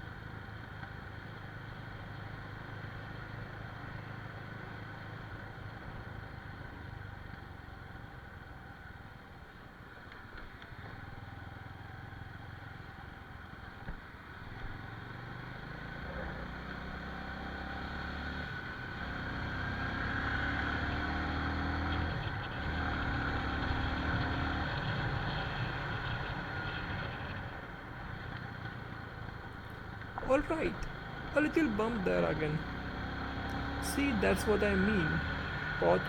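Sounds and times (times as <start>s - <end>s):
road and wind noise: 0.0s - 36.0s.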